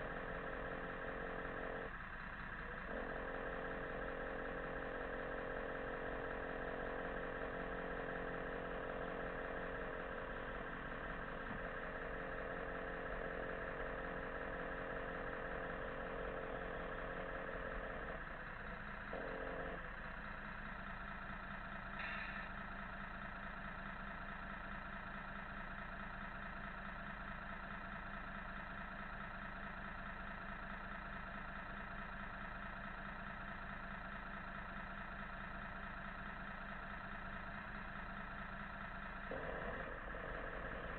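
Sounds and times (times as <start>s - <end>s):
simulated truck engine idling: 0.0s - 40.9s.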